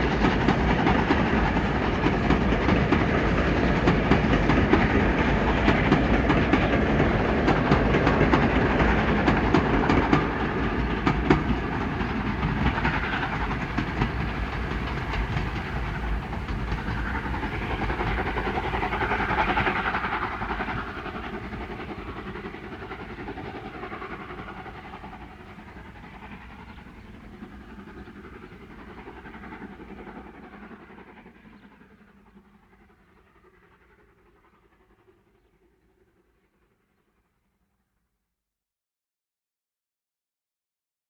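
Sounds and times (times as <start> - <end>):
steam train rumbling on track: 0.0 - 37.1.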